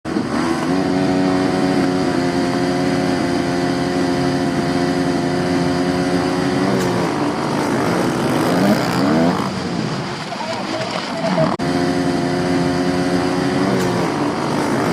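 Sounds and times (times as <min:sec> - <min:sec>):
motocross bike engines revving: 0:00.1 - 0:14.9.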